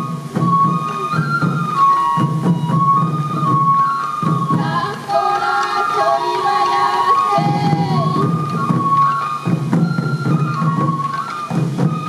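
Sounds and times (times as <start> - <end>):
bamboo flute melody: 0.0 - 12.0
drums beating: 0.0 - 12.0.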